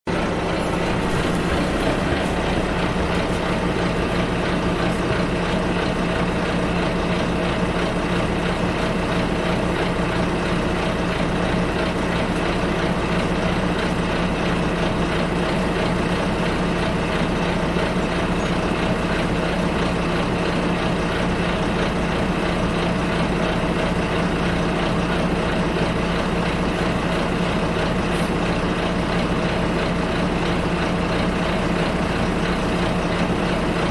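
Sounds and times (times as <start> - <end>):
bus engine idling: 0.0 - 33.9.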